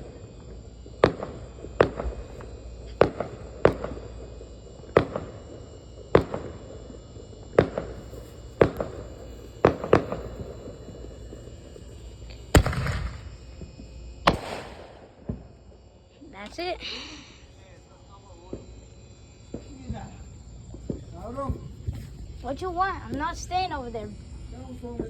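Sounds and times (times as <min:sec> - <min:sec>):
fireworks bangs: 0:00.0 - 0:24.2
firework blasts: 0:00.0 - 0:25.0
hissing crackle: 0:00.0 - 0:25.0.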